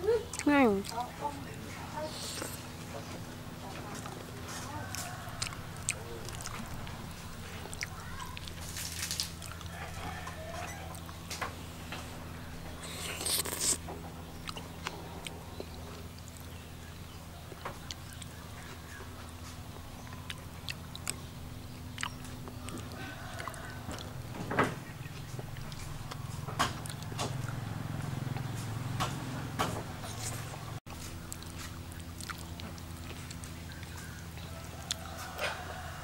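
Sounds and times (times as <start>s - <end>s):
steady low hum: 0.0s - 36.0s
person chewing food: 0.1s - 1.1s, 2.0s - 3.3s, 3.9s - 11.5s, 12.1s - 16.6s, 17.5s - 24.3s, 25.0s - 28.6s, 30.9s - 36.0s.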